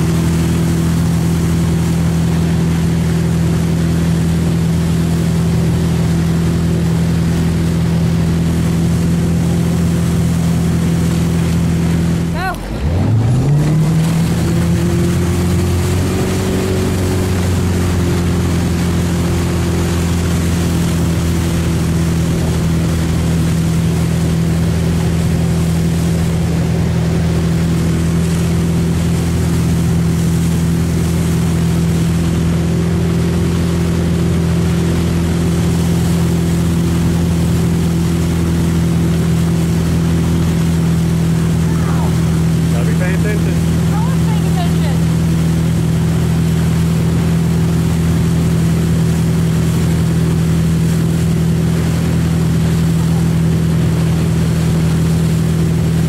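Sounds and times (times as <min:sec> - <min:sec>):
boat engine running: 0:00.0 - 0:56.0
rushing water from wake: 0:00.0 - 0:56.0.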